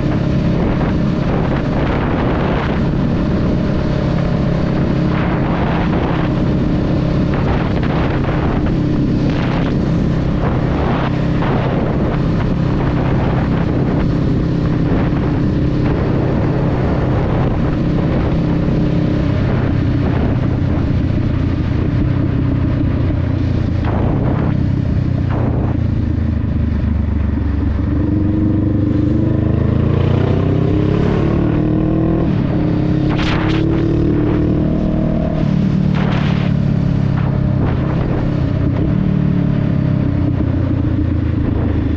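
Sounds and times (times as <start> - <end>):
motorcycle engine riding: 0.0 - 41.9.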